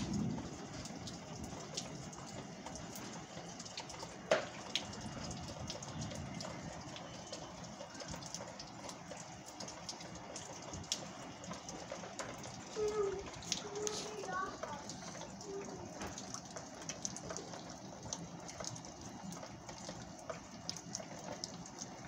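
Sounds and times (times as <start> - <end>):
drips tapping from porch roof: 0.0 - 22.0
rain falling: 0.0 - 22.0.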